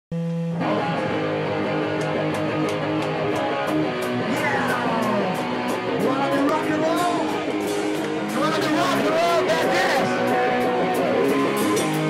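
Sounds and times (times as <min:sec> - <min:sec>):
punk band playing live: 0:00.5 - 0:12.0.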